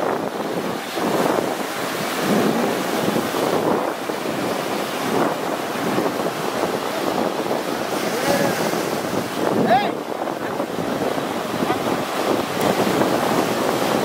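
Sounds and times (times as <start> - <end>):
sea surf breaking: 0.0 - 14.0
wind buffeting microphone: 0.0 - 14.0.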